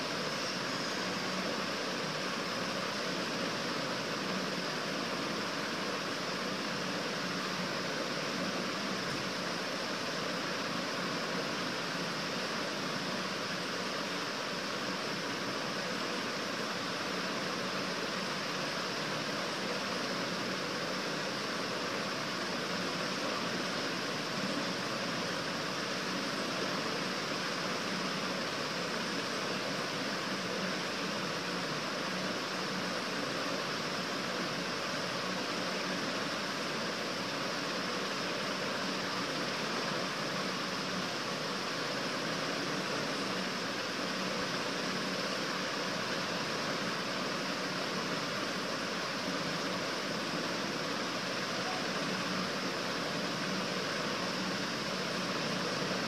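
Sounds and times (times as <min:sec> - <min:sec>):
room noise hiss: 0:00.0 - 0:56.0.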